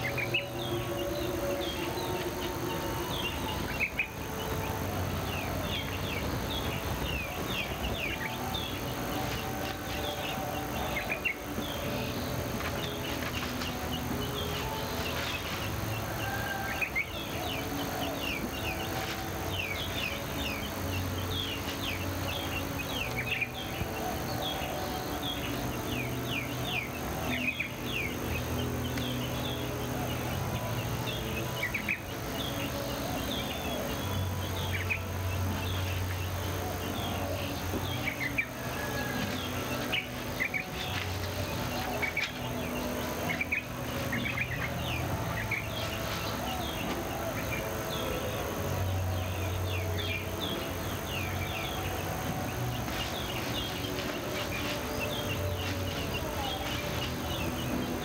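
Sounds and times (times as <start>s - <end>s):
low droning tones: 0.0s - 58.0s
small birds chirping: 0.0s - 58.0s.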